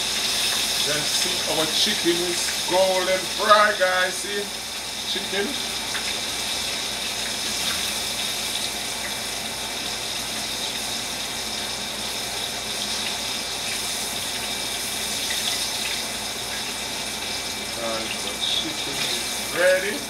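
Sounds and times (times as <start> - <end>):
chicken frying in hot oil: 0.0 - 20.0.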